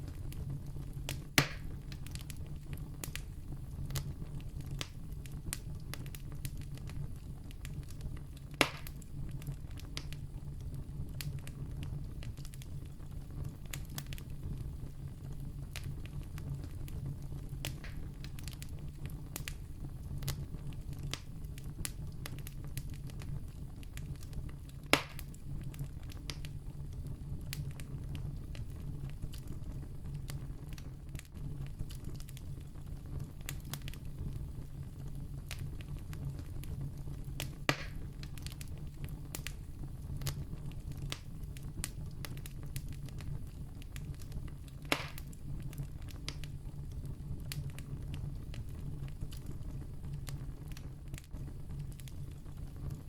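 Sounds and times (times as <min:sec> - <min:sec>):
campfire crackling: 0:00.0 - 0:53.0
sharp fire pops: 0:00.0 - 0:53.0.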